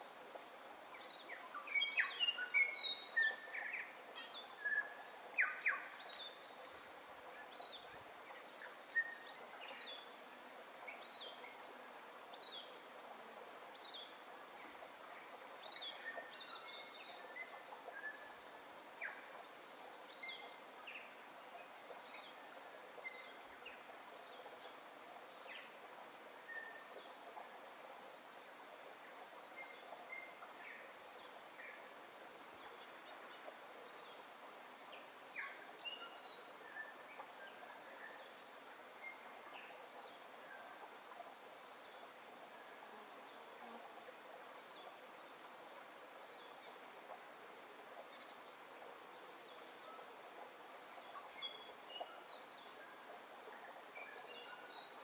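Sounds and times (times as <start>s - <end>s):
soft steady hiss: 0.0s - 55.0s.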